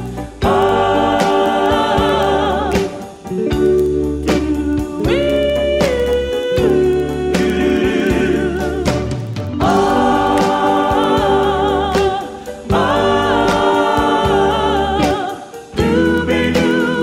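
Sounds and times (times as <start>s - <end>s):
song with sung vocals: 0.0s - 17.0s.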